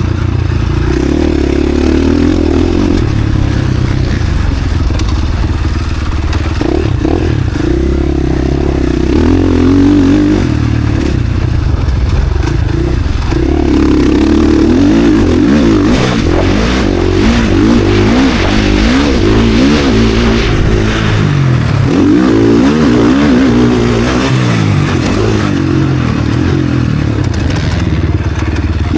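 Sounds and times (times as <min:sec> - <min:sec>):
motocross bike engine revving: 0:00.0 - 0:28.9.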